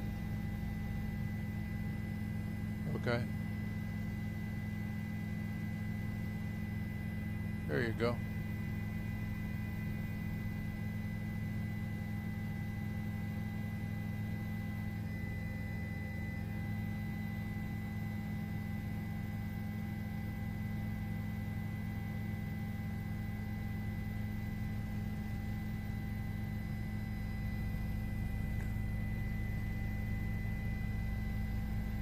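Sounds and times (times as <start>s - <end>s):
steady multi-tone hum: 0.0s - 32.0s.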